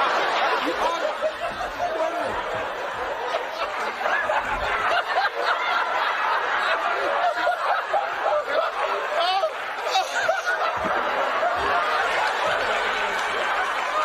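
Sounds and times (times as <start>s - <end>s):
audience laughing: 0.0s - 14.0s.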